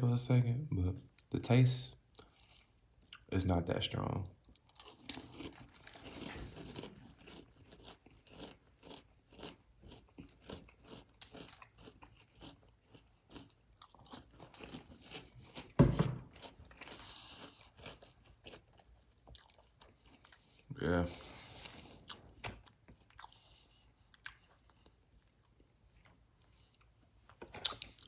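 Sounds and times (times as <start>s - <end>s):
person chewing crunchy cereal: 4.4s - 28.0s.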